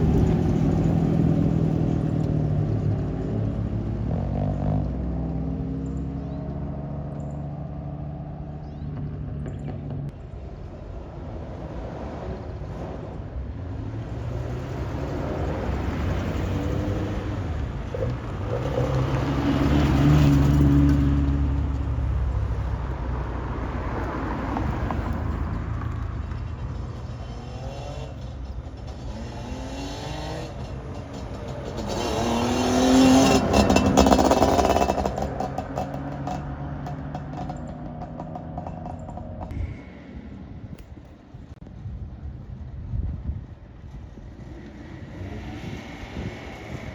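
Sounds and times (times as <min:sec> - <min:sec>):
cars driving past revving: 0:00.0 - 0:41.6, 0:43.8 - 0:46.9.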